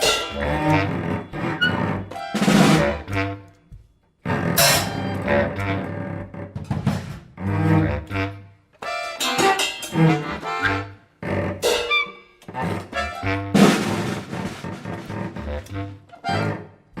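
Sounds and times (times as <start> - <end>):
brass instruments: 0.0 - 3.6, 4.2 - 17.0.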